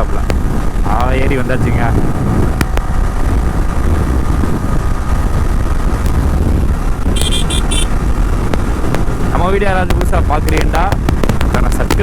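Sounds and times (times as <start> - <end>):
motorcycle engine and road rumble: 0.0 - 12.0
wind buffeting microphone: 0.0 - 12.0.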